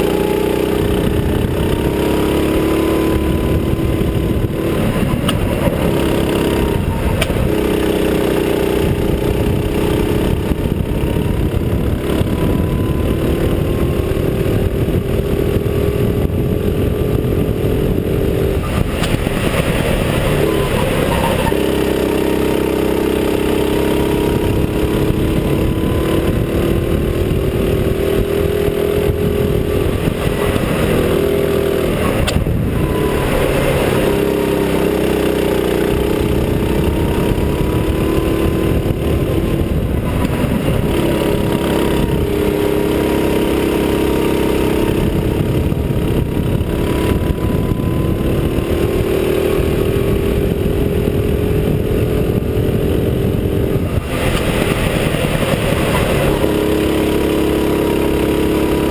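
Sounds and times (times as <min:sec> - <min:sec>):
go-kart engine at high revs: 0:00.0 - 0:58.9
wind and road noise: 0:00.0 - 0:58.9.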